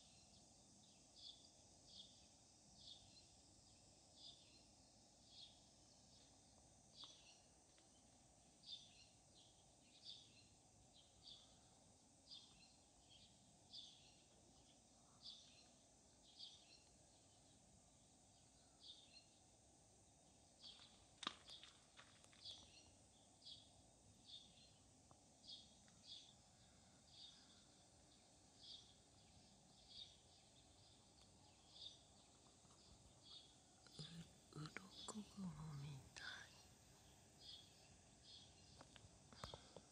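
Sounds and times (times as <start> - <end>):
faint bird chirps: 0.0 - 19.5, 22.4 - 39.9
low outdoor hiss: 0.0 - 39.9
low steady background noise: 0.0 - 39.9.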